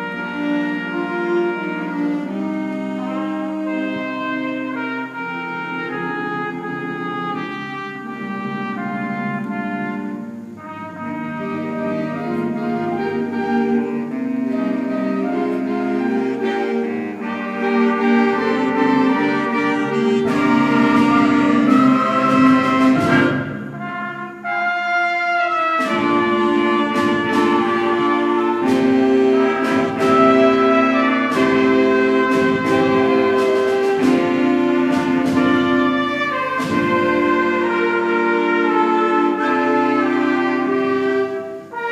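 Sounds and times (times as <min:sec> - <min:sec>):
concert band playing: 0:00.0 - 0:41.9.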